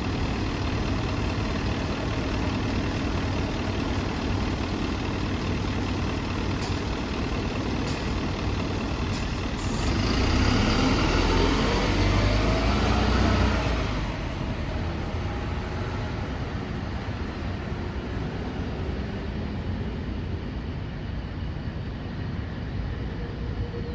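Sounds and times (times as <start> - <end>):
bus diesel engine running: 0.0 - 23.9
climbing engine whine: 0.0 - 23.9.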